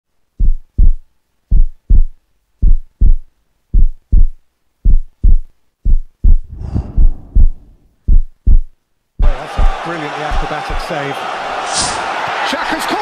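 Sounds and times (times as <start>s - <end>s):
heartbeat thumps: 0.3s - 10.8s.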